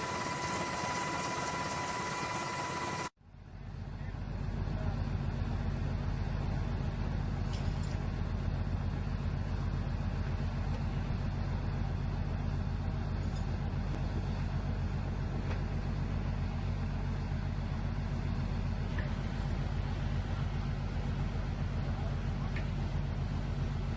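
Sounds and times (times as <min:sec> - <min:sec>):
large engine droning: 0:00.0 - 0:23.9.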